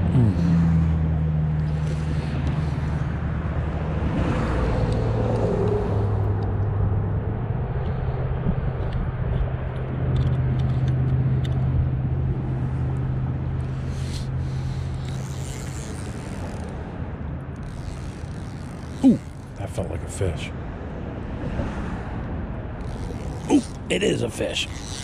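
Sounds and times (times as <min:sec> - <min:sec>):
road traffic engine hum: 0:00.0 - 0:25.0.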